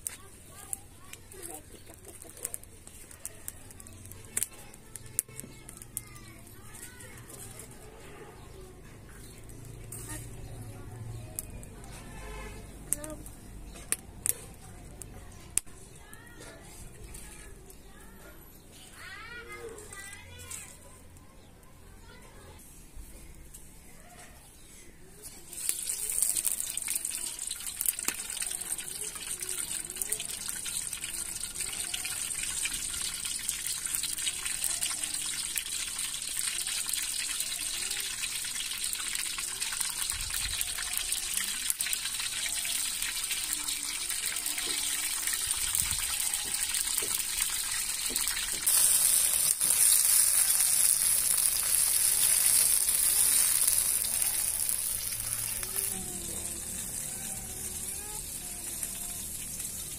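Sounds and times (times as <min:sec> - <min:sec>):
tomatoes sizzling in hot oil: 0:00.0 - 0:17.3, 0:25.2 - 0:59.9.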